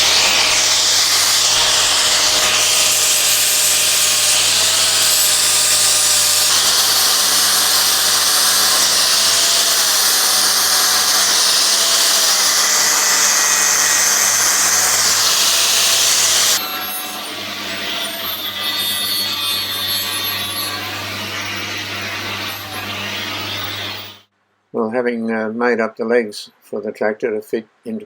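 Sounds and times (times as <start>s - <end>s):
angle grinder on metal: 0.0s - 24.3s.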